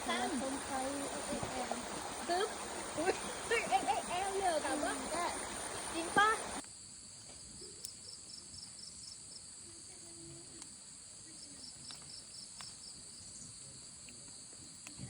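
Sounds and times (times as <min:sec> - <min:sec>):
insects chirping faintly: 0:00.0 - 0:15.0.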